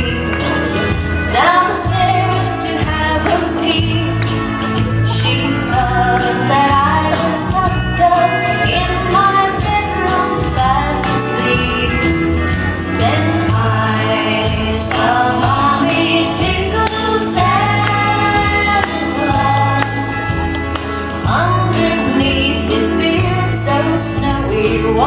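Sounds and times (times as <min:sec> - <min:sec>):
person singing: 0:00.0 - 0:12.2, 0:12.8 - 0:25.0
band playing with steady beat: 0:00.0 - 0:25.0.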